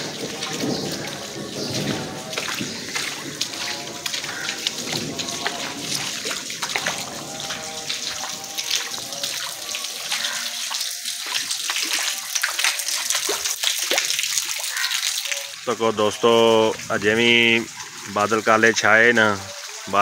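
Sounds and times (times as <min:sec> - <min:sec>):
small splashes and drips: 0:00.0 - 0:20.0
water rushing over concrete: 0:00.0 - 0:20.0.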